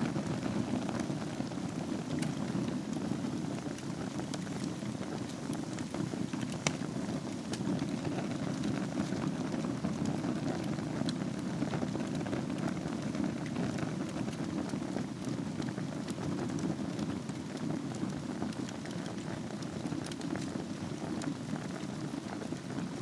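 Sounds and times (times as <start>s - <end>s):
fire crackling in a fireplace: 0.0s - 23.0s.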